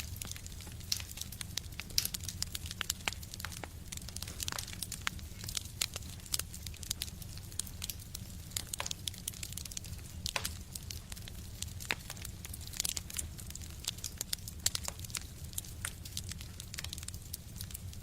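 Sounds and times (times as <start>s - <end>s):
low rumble of fire: 0.0s - 18.0s
wood fire crackling: 0.0s - 18.0s.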